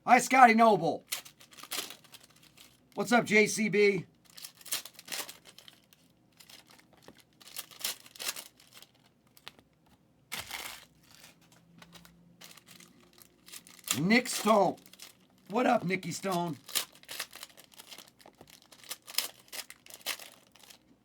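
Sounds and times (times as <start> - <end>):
packaging crinkling and tearing: 1.0 - 3.0, 4.2 - 9.7, 10.3 - 20.9.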